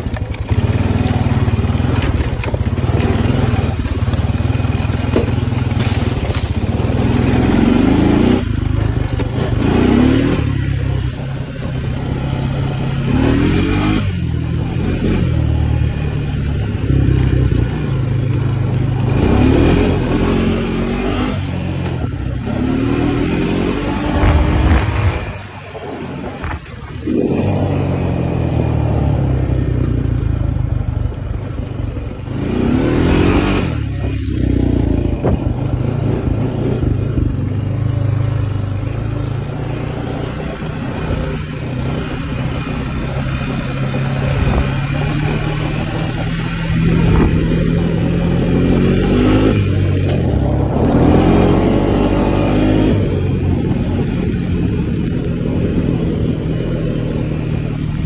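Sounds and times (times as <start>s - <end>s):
atv engine accelerating: 0.0s - 58.0s.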